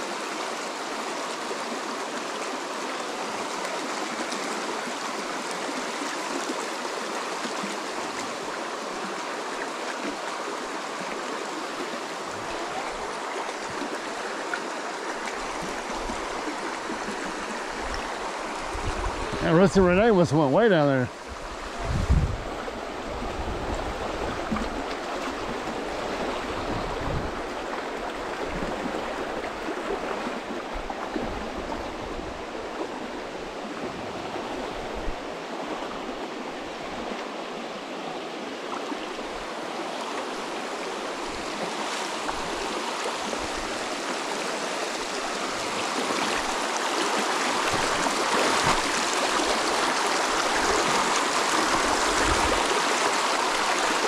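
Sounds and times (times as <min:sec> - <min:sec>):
creek running over stones: 0:00.0 - 0:54.0.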